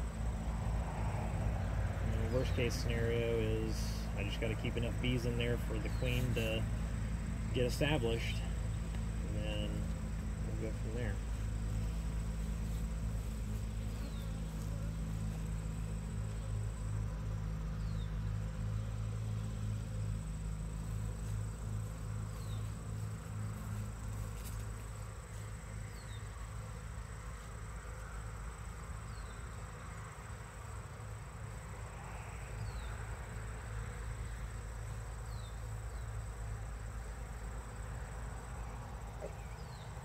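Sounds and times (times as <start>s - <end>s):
high insect trill: 0.0s - 40.0s
honeybees buzzing: 0.0s - 40.0s.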